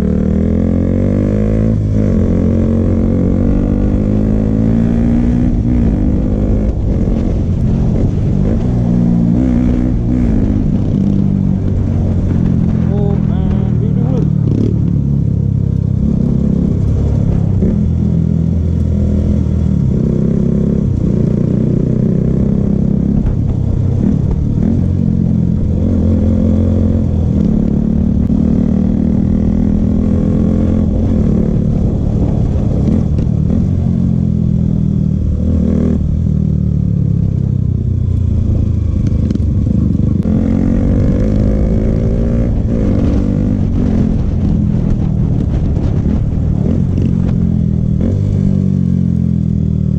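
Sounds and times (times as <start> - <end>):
motorcycle engine shifting gears: 0.0 - 49.9.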